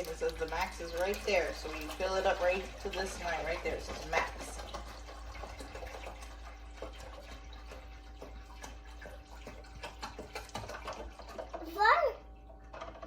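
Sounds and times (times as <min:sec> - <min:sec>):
water pouring into a tank: 0:00.0 - 0:13.0.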